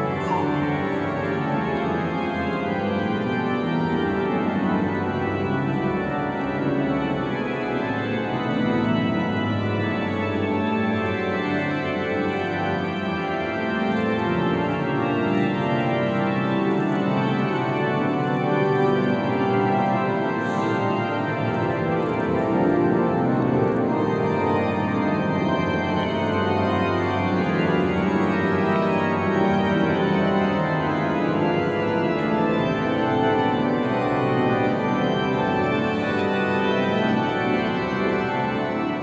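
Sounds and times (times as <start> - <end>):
pipe organ chords: 0.0 - 39.0.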